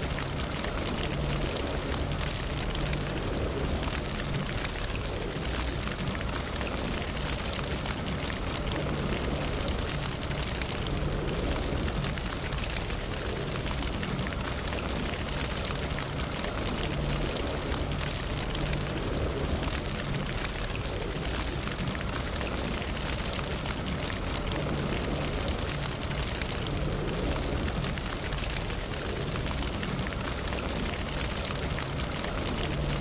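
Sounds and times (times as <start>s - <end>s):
campfire burning and crackling: 0.0s - 33.0s.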